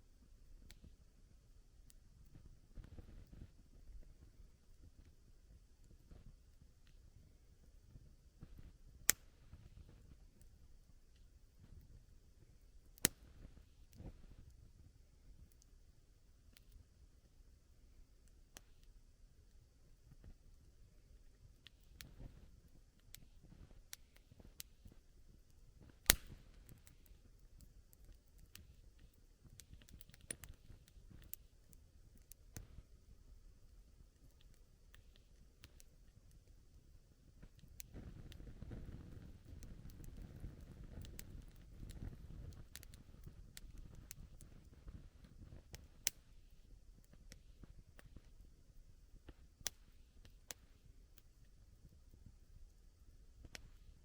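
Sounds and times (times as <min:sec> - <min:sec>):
faint low rumble: 0:00.0 - 0:54.0
campfire crackling: 0:00.1 - 0:54.0.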